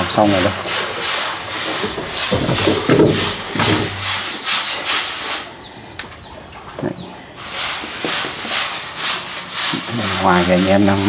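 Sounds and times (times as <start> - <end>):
rhythmic gritty scraping: 0.0 - 5.5, 7.4 - 11.0.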